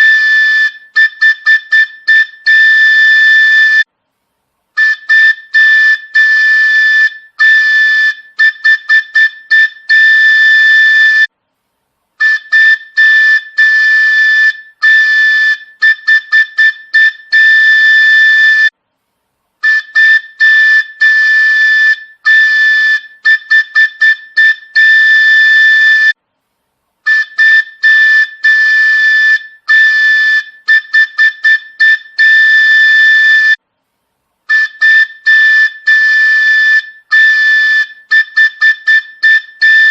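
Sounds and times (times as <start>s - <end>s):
whistle-like train horn toots: 0.0s - 3.9s, 4.8s - 11.3s, 12.2s - 18.7s, 19.6s - 26.2s, 27.0s - 33.6s, 34.5s - 39.9s.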